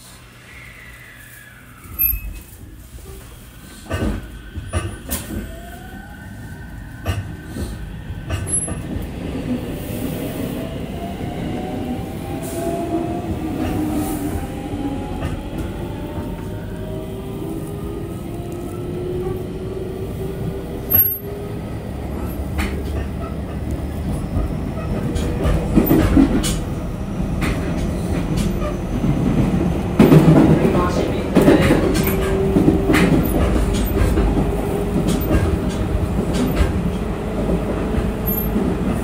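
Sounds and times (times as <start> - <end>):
electric train hum and rumble: 0.0 - 39.0.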